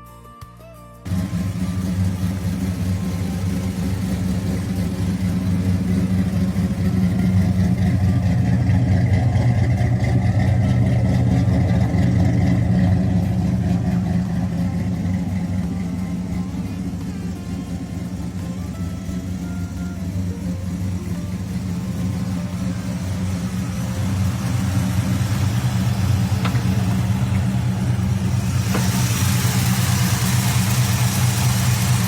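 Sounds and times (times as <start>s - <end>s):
car engine running: 1.1s - 32.0s.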